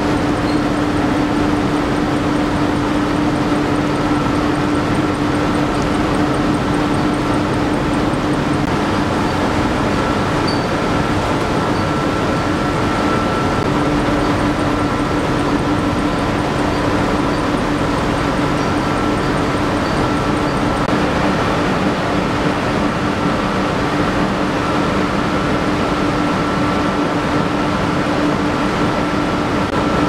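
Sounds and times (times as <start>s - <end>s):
sorting machines mechanical din: 0.0s - 24.9s
steady machine hum: 0.0s - 30.0s.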